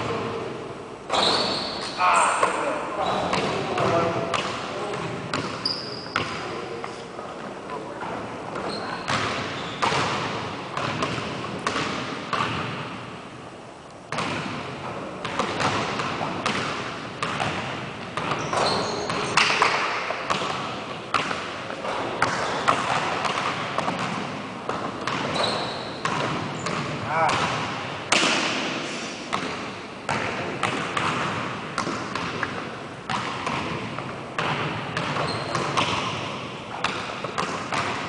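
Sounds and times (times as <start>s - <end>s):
basketball bouncing on gym floor: 1.1s - 6.6s, 8.0s - 13.1s, 14.1s - 38.0s.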